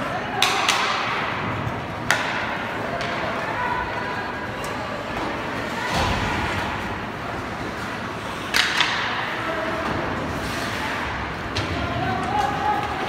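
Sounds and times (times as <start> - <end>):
arena noise: 0.0 - 13.0.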